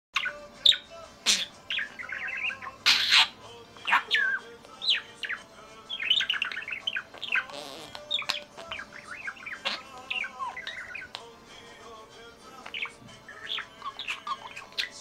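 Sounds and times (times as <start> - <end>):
budgerigar warbling: 0.2 - 11.2, 12.6 - 15.0.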